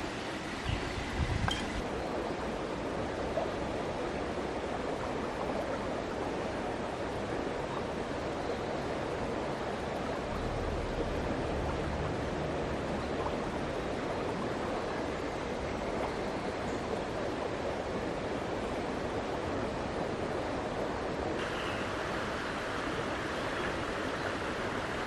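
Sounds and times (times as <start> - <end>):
river rushing: 1.5 - 25.0.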